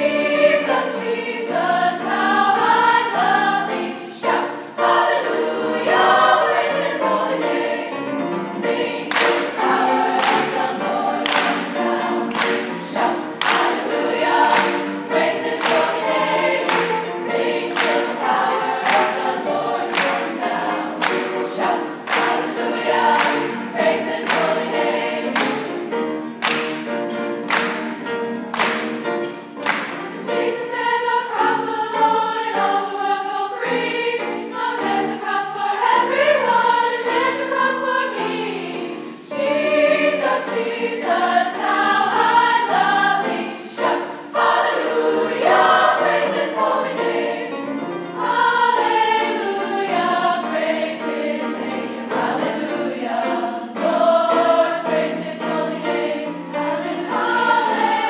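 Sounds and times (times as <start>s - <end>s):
girls' choir singing gospel: 0.0s - 58.0s.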